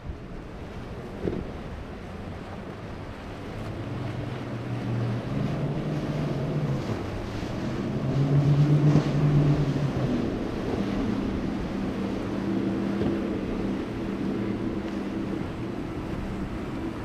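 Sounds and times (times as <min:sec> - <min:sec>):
choppy waves: 0:00.0 - 0:17.0
motorboat engine running: 0:00.0 - 0:17.0
wind on microphone: 0:00.0 - 0:17.0.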